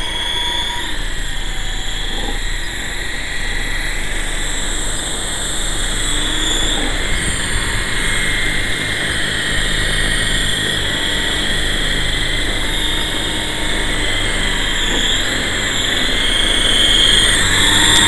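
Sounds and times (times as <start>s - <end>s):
rc helicopter rotor whine: 0.0s - 18.0s.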